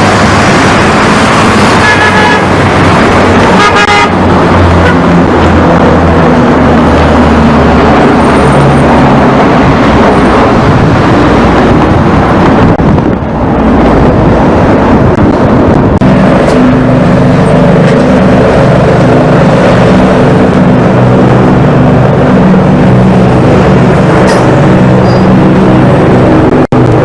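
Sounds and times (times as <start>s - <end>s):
turboprop aircraft drone: 0.0s - 27.0s.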